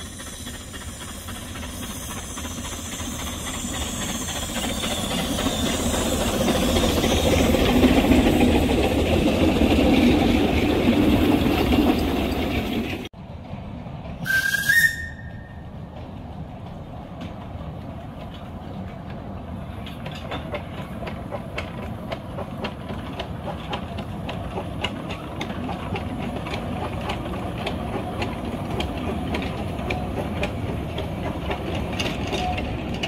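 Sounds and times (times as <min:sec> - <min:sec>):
steam train rumbling: 0:00.0 - 0:33.0
wheels clicking over rail joints: 0:00.0 - 0:33.0.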